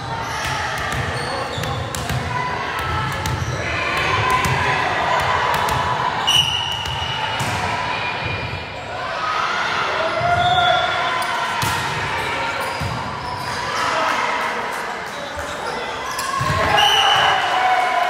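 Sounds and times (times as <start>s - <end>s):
voices echoing in a hall: 0.0s - 18.0s.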